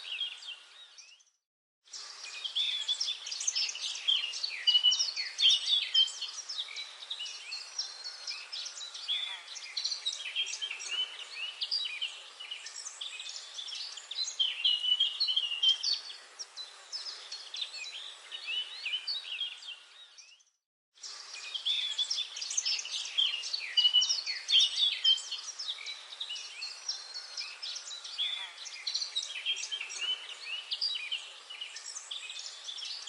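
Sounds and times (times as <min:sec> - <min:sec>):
songbirds chirping and singing: 0:00.0 - 0:01.3, 0:01.9 - 0:33.0.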